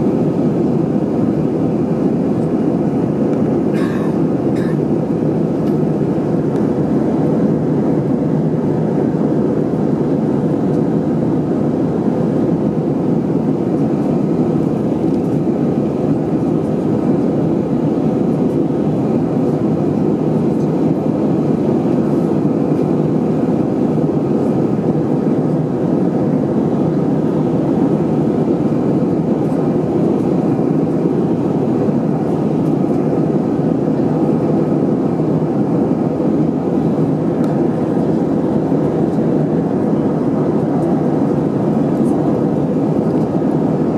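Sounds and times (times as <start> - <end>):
jet airliner in flight: 0.0 - 43.9.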